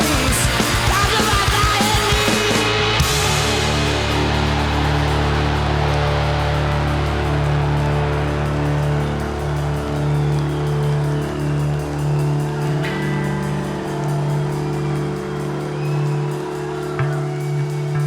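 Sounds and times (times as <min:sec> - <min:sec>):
rock band playing heavy droning: 0:00.0 - 0:18.0.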